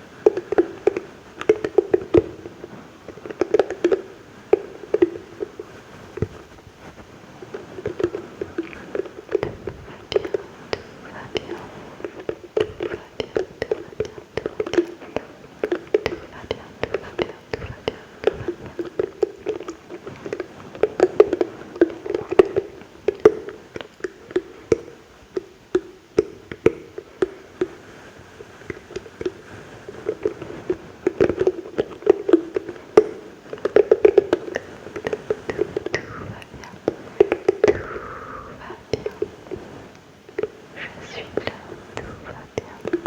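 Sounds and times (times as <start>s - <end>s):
wet mouth clicks and smacks: 0.2s - 43.0s.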